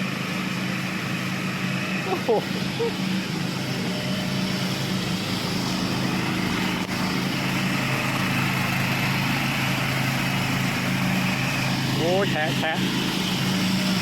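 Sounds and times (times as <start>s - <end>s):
ride-on lawn mower engine: 0.0s - 14.0s.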